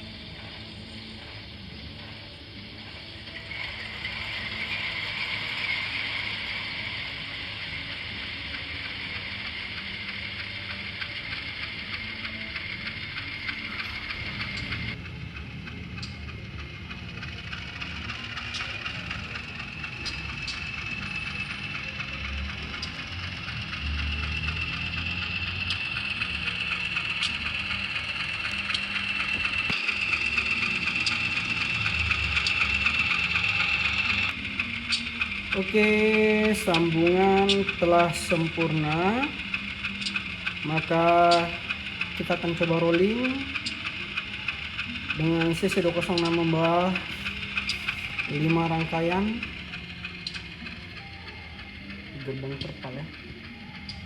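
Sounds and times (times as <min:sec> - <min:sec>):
diesel engine through small speaker: 0:00.0 - 0:54.0
faint regular ticking: 0:00.0 - 0:54.0.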